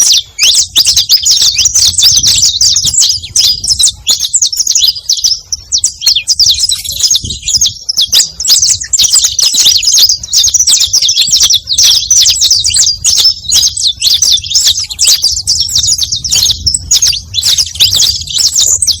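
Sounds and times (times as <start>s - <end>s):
finch singing high trills: 0.0s - 19.0s.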